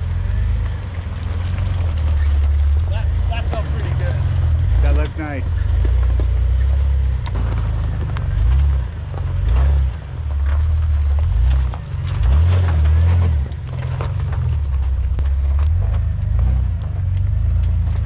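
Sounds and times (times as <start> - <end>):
engine revving: 0.0 - 18.0
tyres clicking on rocks: 0.0 - 18.0.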